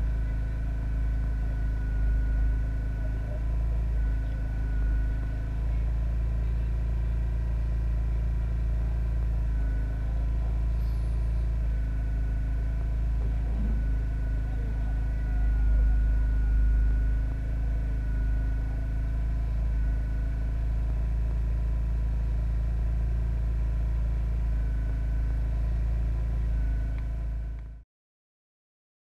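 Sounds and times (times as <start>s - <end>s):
low rumble with hum: 0.0s - 27.8s.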